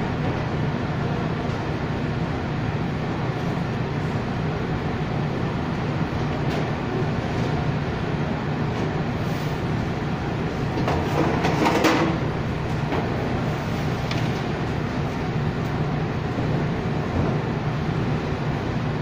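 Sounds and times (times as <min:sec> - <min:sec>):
machinery hum and rumble: 0:00.0 - 0:19.0.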